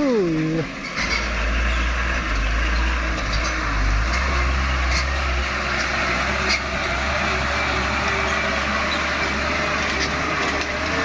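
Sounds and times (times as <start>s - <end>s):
truck diesel engine running hard: 0.0s - 11.0s.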